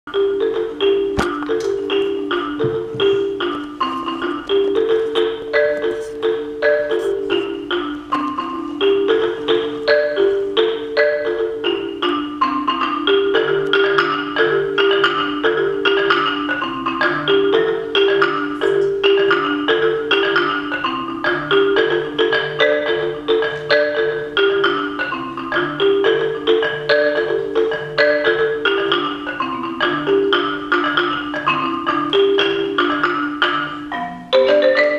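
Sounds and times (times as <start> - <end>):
low marimba notes pulsing: 0.1 - 34.9
marimba played with mallets: 0.1 - 34.9.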